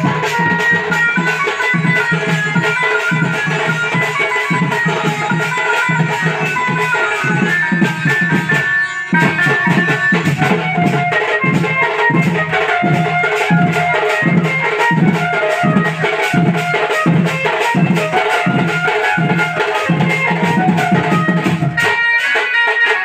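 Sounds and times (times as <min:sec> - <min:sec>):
steady drum beat: 0:00.0 - 0:23.0.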